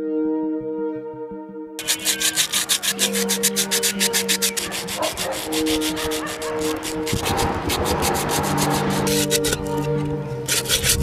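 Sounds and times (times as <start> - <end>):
hand rubbing on cement: 1.8 - 11.0.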